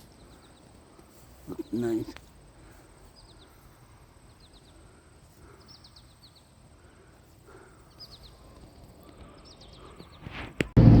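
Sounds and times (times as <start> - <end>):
faint bird chirping: 0.0 - 10.6.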